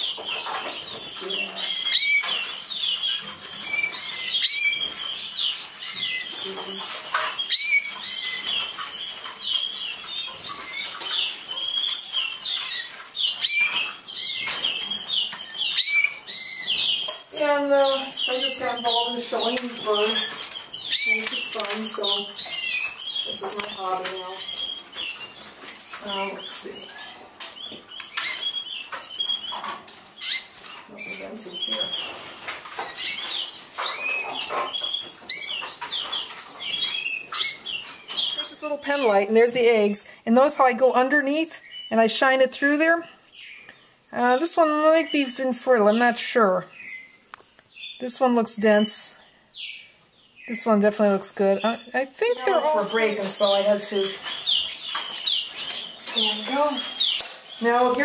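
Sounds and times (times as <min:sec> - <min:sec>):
canaries chirping: 0:00.0 - 0:58.0.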